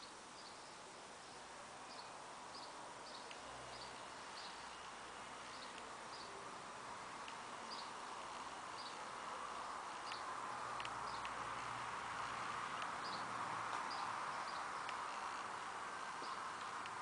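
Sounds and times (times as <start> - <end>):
small bird chirping: 0.0 - 6.6, 7.2 - 17.0
soft steady hiss: 0.0 - 17.0.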